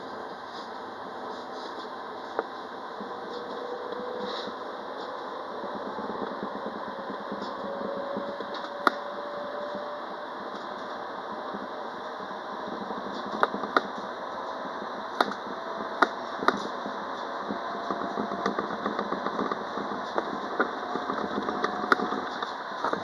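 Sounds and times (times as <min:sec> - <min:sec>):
faint whine: 0:00.0 - 0:23.0
tram rolling on rails: 0:00.0 - 0:23.0.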